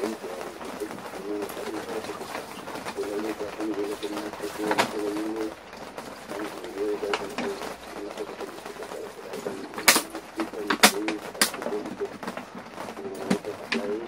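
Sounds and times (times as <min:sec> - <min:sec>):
pigeon cooing: 0:00.0 - 0:05.6, 0:06.3 - 0:12.3.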